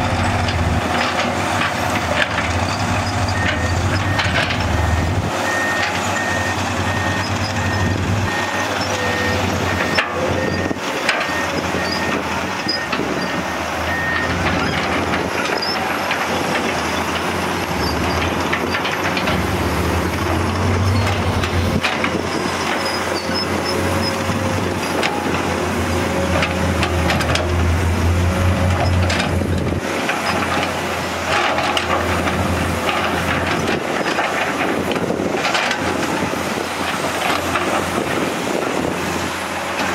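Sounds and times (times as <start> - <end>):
excavator diesel engines under load: 0.0 - 39.9.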